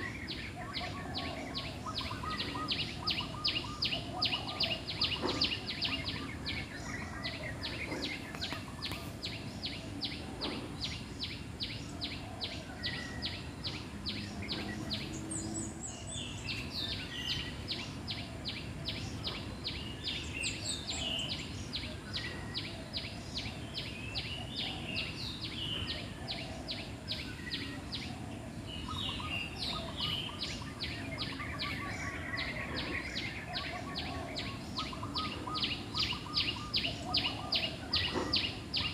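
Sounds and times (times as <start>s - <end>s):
outdoor ambience hiss: 0.0s - 38.9s
wild birds chirping: 0.0s - 38.9s.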